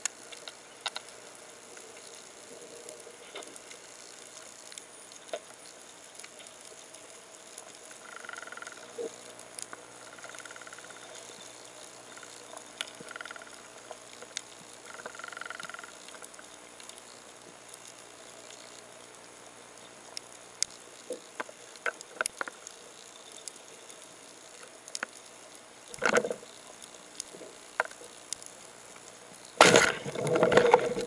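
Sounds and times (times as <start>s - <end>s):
faint underwater hiss: 0.0s - 31.0s
sharp clicks and crackles: 0.0s - 31.0s.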